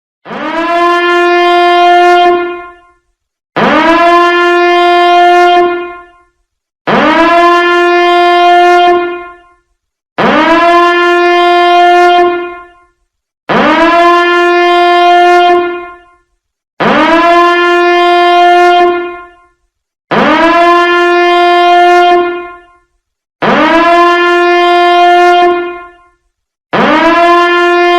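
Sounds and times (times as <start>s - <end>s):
alarm horn-like tone: 0.2s - 27.9s.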